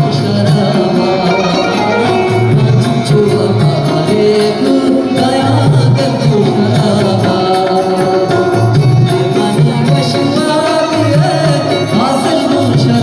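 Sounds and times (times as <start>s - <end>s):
drum-backed instrumental accompaniment: 0.0s - 13.0s
person singing: 0.0s - 13.0s.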